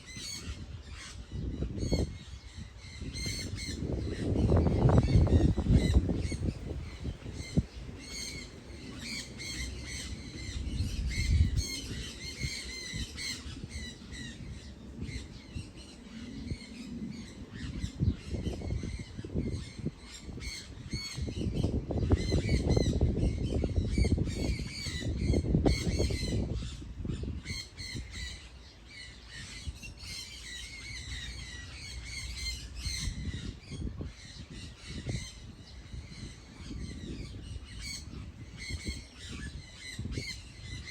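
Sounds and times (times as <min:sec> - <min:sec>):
birds squawking and chirping: 0:00.0 - 0:40.9.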